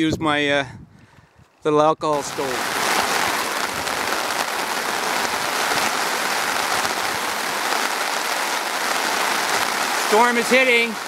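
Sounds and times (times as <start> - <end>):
heavy rain on a tarp: 2.1 - 11.0.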